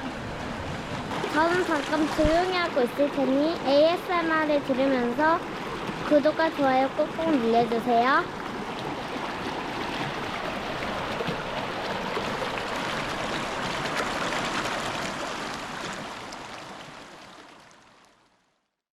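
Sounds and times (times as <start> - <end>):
stream flowing: 0.0 - 18.6.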